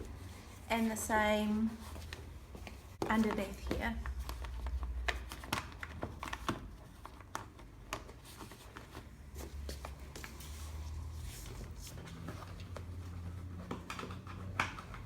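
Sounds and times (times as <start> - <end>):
straps rustling through fabric: 0.0 - 15.0.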